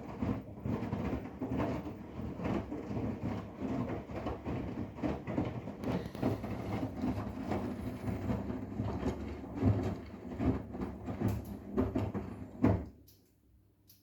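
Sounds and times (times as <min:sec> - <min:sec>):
thumps in washing machine drum: 0:00.0 - 0:12.9
washing machine drum tumbling: 0:00.0 - 0:13.0.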